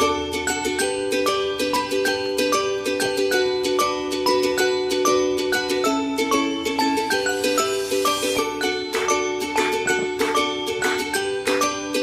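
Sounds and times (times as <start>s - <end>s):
background music with quick notes: 0.0s - 12.0s.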